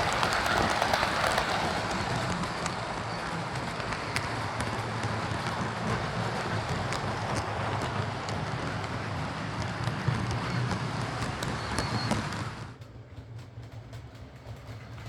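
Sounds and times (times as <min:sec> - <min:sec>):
model train motor hum: 0:00.0 - 0:15.0
wheels clicking on rails: 0:00.0 - 0:15.0.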